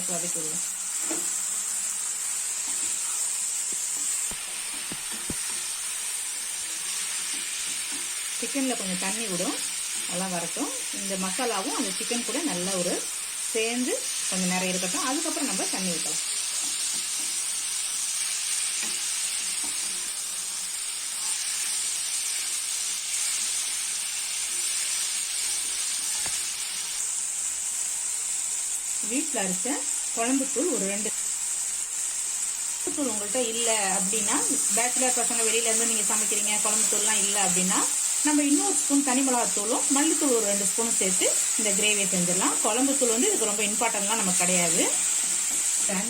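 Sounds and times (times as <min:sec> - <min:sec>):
chicken sizzling in a pan: 0:00.0 - 0:46.0.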